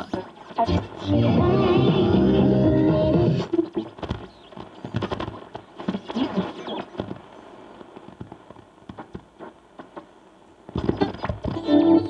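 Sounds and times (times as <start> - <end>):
radio static crackles: 0.0 - 12.0
snatches of broadcast sound: 0.0 - 12.0.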